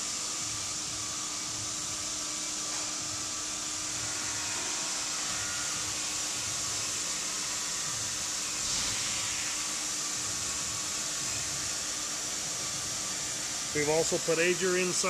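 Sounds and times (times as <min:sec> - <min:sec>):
blower motor hissing: 0:00.0 - 0:15.0.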